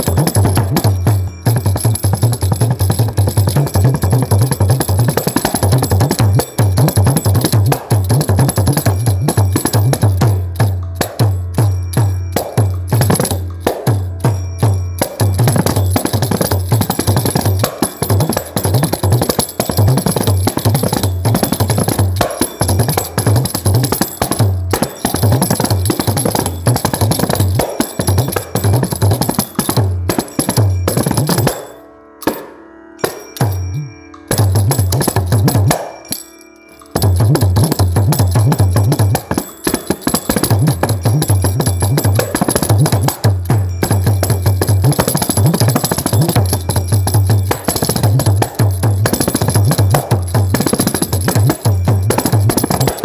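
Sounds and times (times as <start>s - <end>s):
frame drum with jingles: 0.0s - 53.0s.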